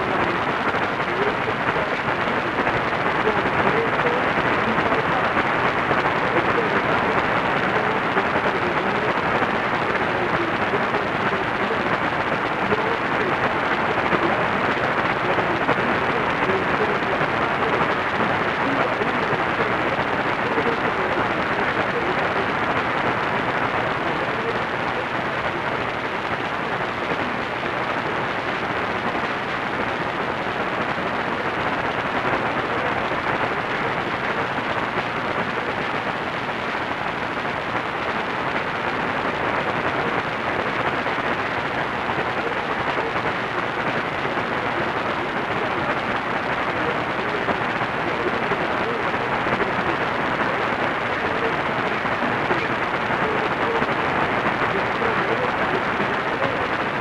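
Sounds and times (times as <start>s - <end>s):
radio static hiss: 0.0s - 57.0s.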